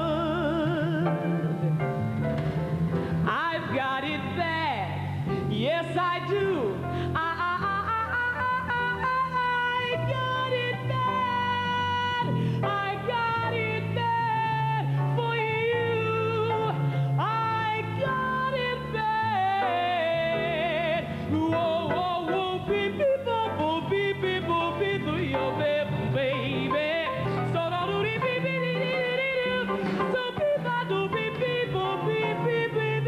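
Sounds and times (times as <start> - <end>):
woman singing wordlessly: 0.0 - 1.2, 3.3 - 33.0.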